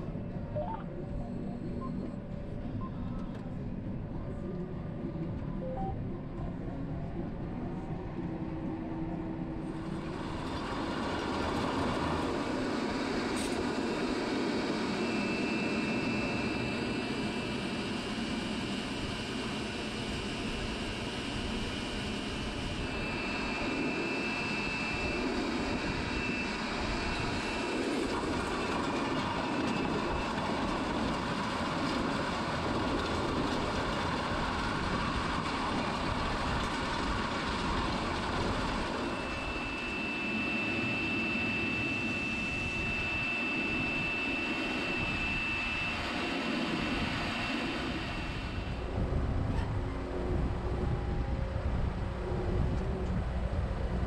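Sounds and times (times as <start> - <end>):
thin high whine: 5.5 - 53.1.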